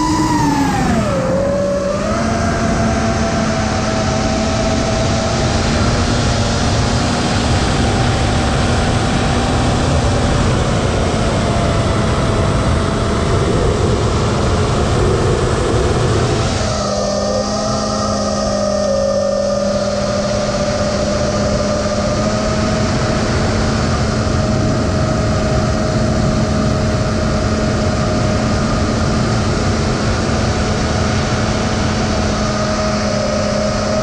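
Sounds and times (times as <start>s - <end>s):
drone motors and propellers whining: 0.0s - 34.0s
heavy wind rush: 0.0s - 34.0s.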